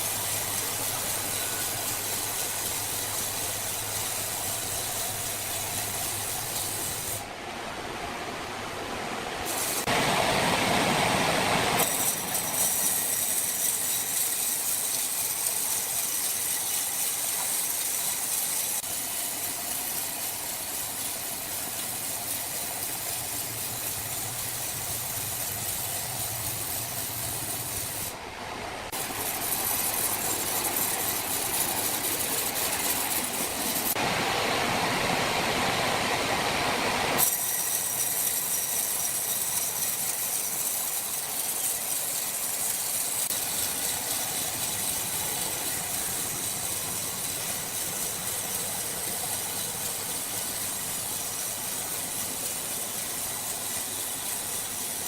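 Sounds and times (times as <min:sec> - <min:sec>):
sawmill machinery running: 0:00.0 - 0:07.3, 0:09.1 - 0:55.0.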